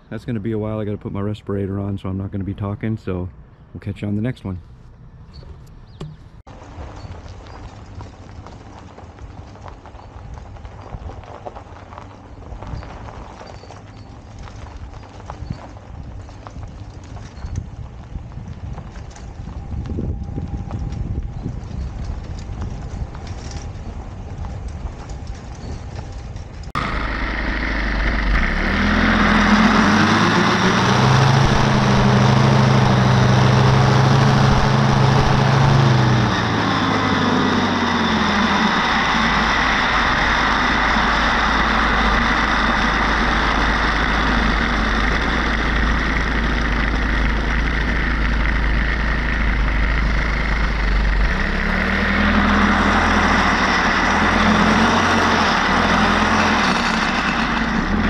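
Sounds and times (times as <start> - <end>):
engine starting and running: 0.0 - 58.0.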